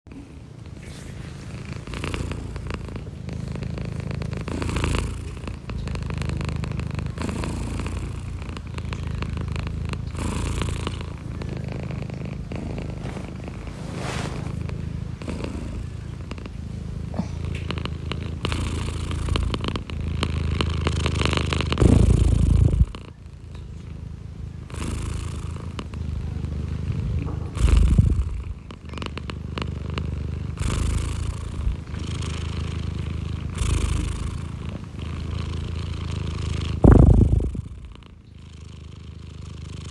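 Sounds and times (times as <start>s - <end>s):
cat purring: 0.1s - 39.9s.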